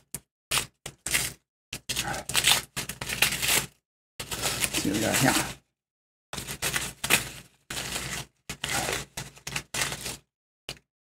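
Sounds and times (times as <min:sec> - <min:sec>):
packing paper crinkling: 0:00.5 - 0:05.6, 0:06.4 - 0:10.8.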